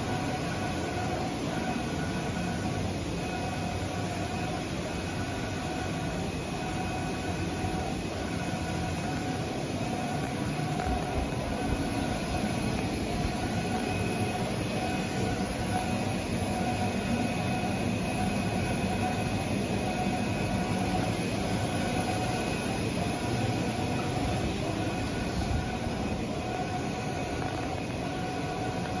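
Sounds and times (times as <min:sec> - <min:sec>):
faint whining tones: 0:00.0 - 0:29.0
machine drone: 0:00.0 - 0:29.0.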